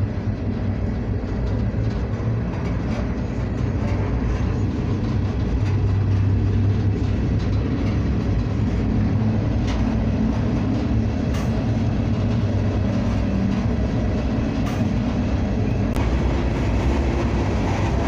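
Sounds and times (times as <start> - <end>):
rumble of wheels on rail: 0.0 - 18.0.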